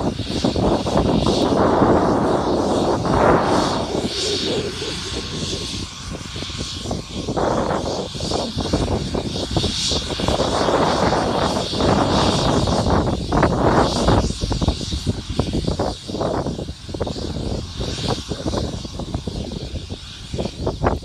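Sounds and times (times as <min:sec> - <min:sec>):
helicopter rotor rushing: 0:00.0 - 0:21.0
helicopter turbine whine: 0:00.0 - 0:21.0.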